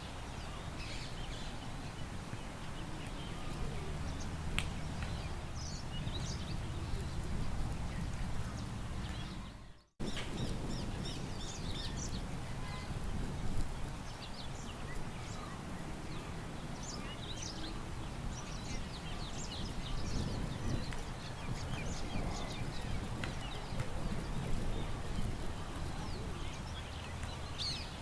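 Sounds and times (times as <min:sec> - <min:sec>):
low wind rumble: 0:00.0 - 0:28.0
small birds chirping: 0:00.2 - 0:28.0.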